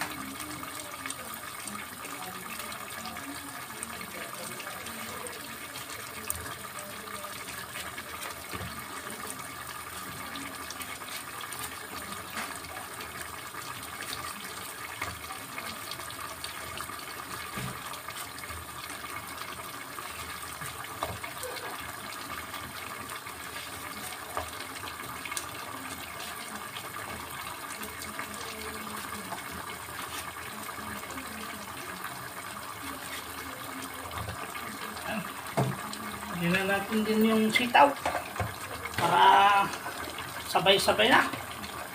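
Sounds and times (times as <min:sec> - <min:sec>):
broth simmering: 0:00.0 - 0:41.9.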